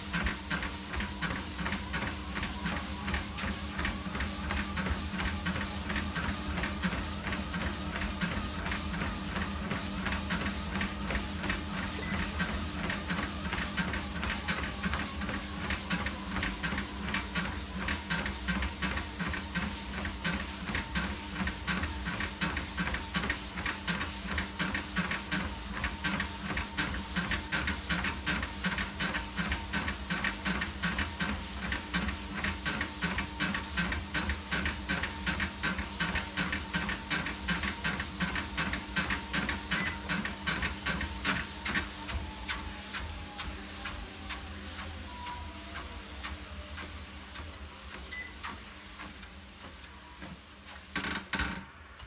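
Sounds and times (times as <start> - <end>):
exercise machine pulsing hum: 0.0 - 52.0.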